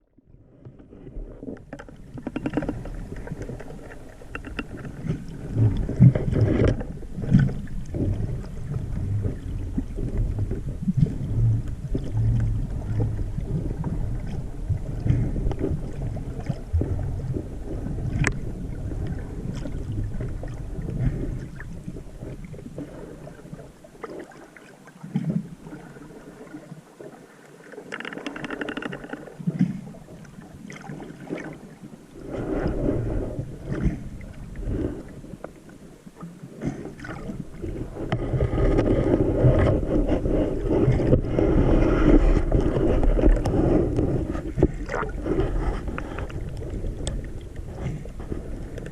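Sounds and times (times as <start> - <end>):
sea water surging and sloshing: 0.0 - 48.9.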